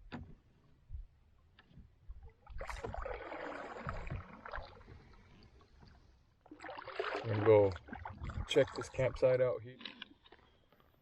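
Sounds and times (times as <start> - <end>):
water splashing beside a canoe: 0.0 - 11.0.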